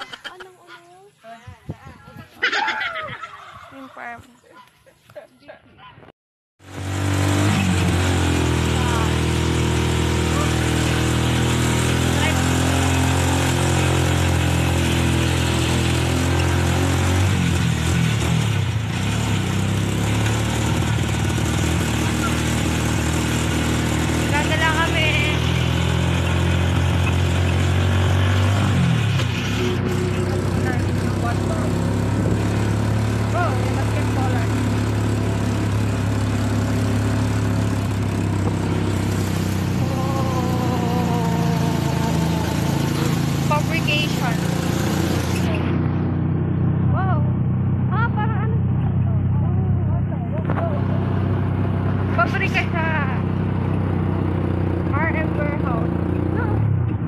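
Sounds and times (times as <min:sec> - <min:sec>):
vehicle engine running: 0:06.6 - 0:57.0.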